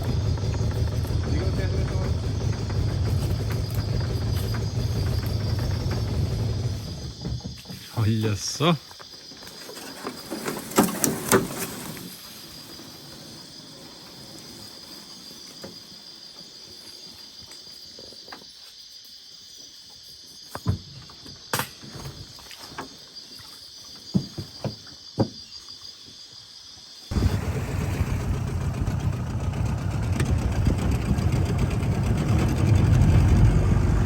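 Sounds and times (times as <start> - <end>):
insect chorus: 0.0 - 33.4.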